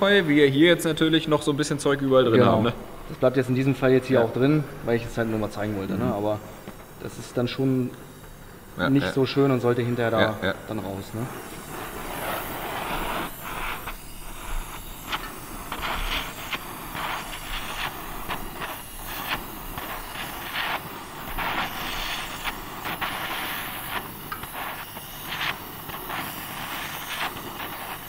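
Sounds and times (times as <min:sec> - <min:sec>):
gas torch flame hissing: 0:00.0 - 0:28.0.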